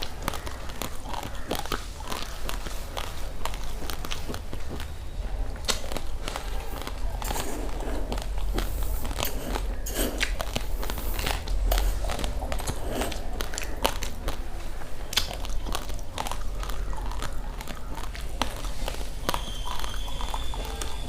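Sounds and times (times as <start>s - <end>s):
raw rice grains crunching: 0.0s - 21.0s.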